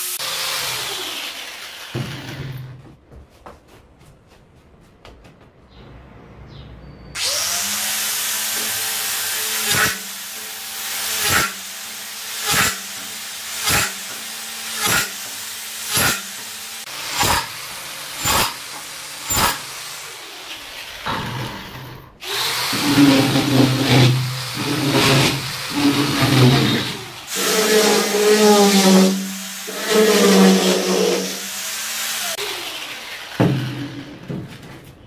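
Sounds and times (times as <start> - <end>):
angle grinder drilling steel: 0.0 - 2.7, 7.2 - 34.3
grinder drilling into brick: 0.0 - 2.7, 7.2 - 21.1, 22.1 - 34.4.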